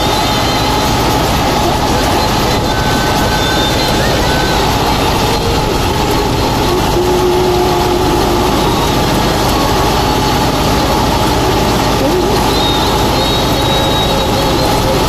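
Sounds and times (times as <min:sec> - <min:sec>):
thresher running: 0:00.0 - 0:15.0
tractor engine running: 0:00.0 - 0:15.0.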